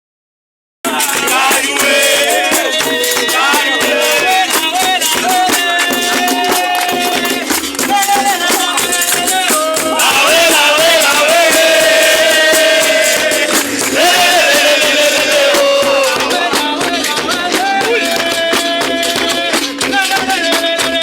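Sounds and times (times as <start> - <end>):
shaker rattle: 0.9 - 20.8
person singing: 0.9 - 21.0
steady percussion: 0.9 - 21.0
tambourine jingle: 0.9 - 21.0.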